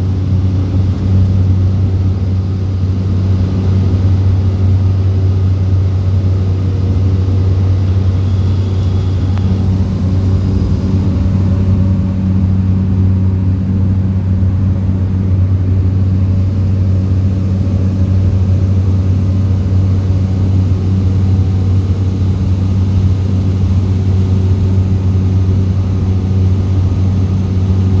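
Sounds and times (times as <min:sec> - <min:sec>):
propeller plane engine droning: 0:00.0 - 0:28.0
faint high whine: 0:05.4 - 0:28.0.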